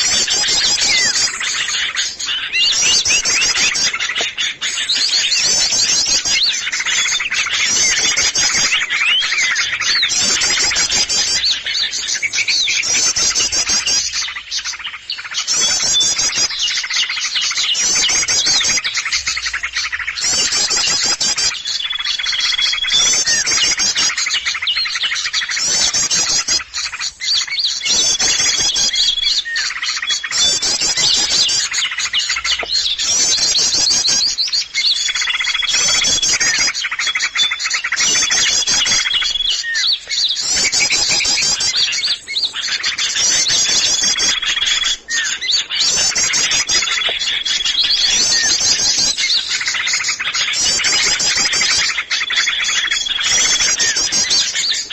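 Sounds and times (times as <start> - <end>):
songbirds twittering and chirping: 0.0 - 54.9.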